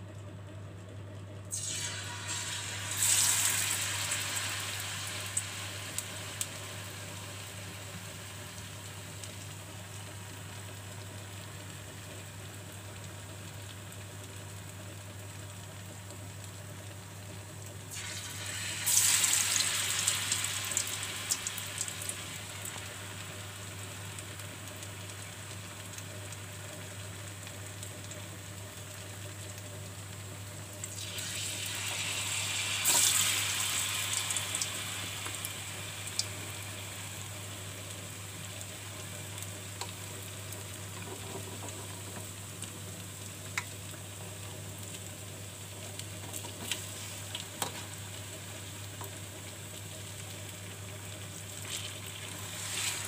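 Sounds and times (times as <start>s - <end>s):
batter frying in hot oil: 0.0s - 53.0s.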